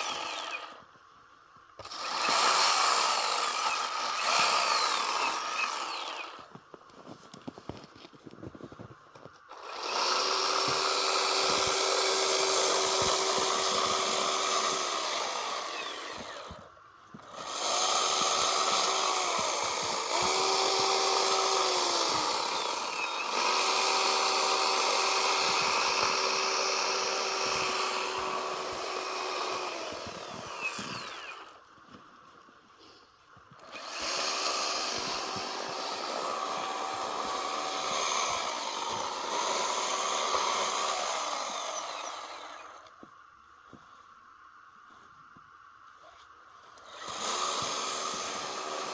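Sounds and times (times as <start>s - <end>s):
chainsaw cutting snow: 0.0s - 0.9s, 1.8s - 32.0s, 33.6s - 43.1s, 46.1s - 48.9s.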